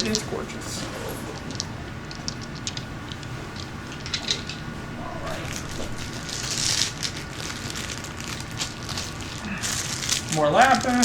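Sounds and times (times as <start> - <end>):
plastic bag rustling: 0.0 - 11.0
small stones clinking: 1.0 - 11.0.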